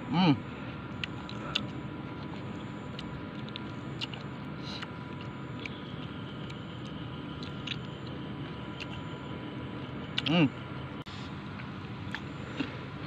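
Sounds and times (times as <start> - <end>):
person chewing crisp fruit: 0.8 - 10.6, 11.2 - 13.0.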